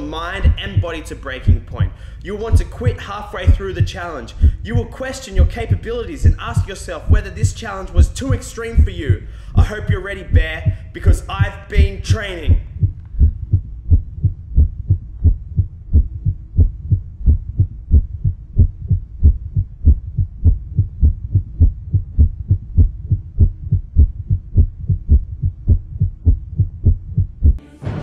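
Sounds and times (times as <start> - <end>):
fast heartbeat thumps: 0.0 - 27.6.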